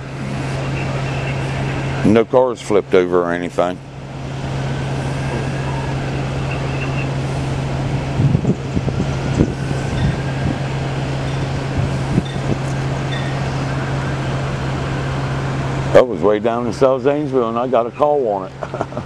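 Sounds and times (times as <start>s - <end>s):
vehicle engines idling: 0.0s - 19.0s.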